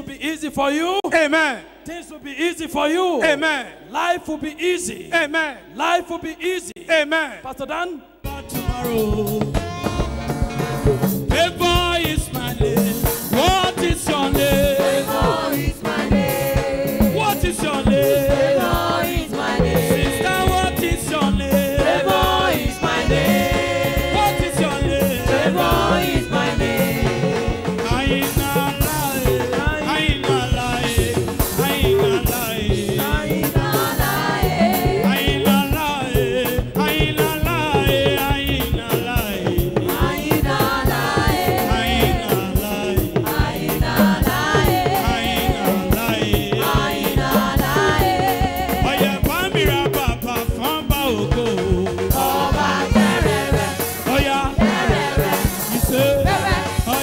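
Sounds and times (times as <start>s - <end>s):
gospel group singing over a beat: 8.2s - 57.0s.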